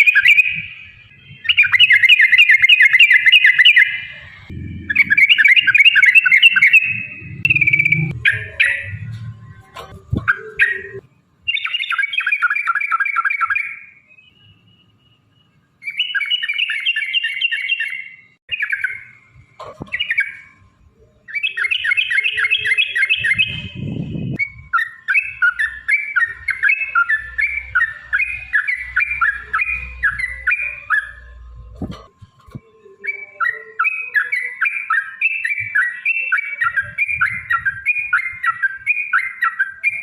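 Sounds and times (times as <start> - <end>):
bird chattering song: 0.0 - 14.4, 15.8 - 19.2, 19.8 - 20.6, 21.2 - 40.0.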